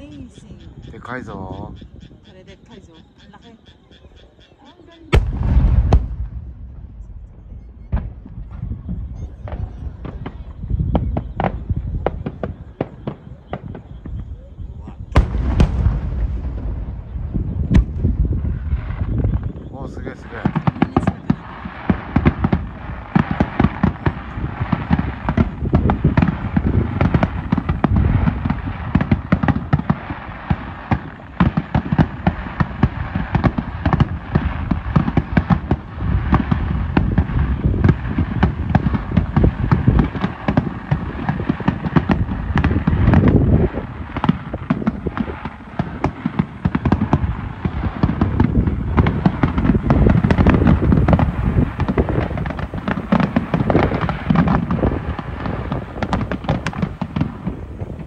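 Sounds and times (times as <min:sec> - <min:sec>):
fireworks bursting: 0:04.3 - 0:58.0.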